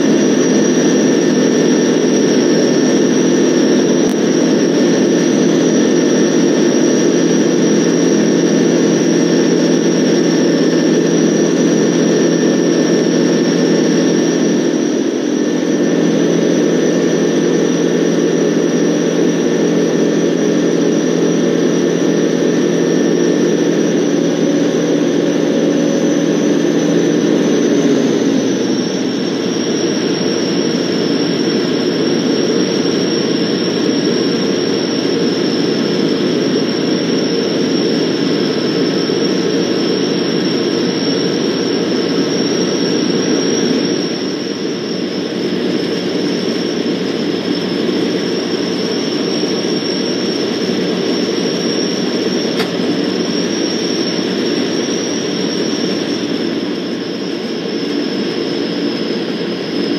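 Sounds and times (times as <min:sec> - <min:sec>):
aircraft engine and propeller: 0:00.0 - 0:59.9
high whine: 0:00.0 - 0:59.9.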